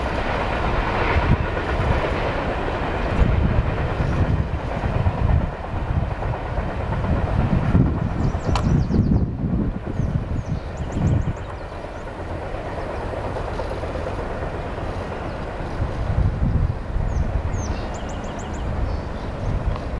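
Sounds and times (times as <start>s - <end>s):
freight train rolling on rails: 0.0s - 19.9s.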